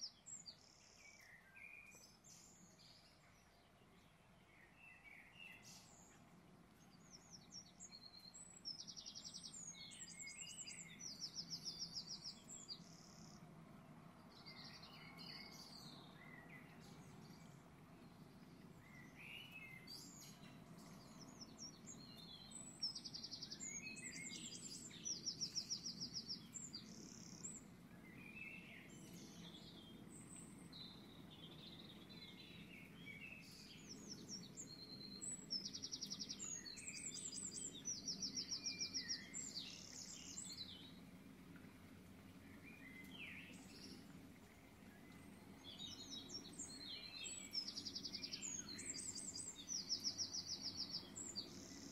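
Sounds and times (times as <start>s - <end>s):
songbirds singing and chirping: 0.0s - 51.9s
low steady background hum: 2.0s - 51.9s.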